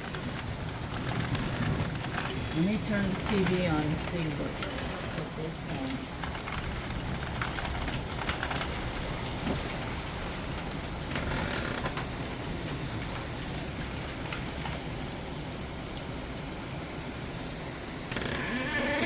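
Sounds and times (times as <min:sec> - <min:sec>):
heavy rain hissing: 0:00.1 - 0:19.0.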